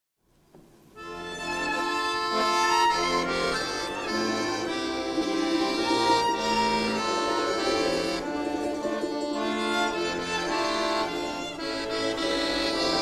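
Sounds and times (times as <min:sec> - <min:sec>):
instrumental folk music: 0:00.6 - 0:13.0.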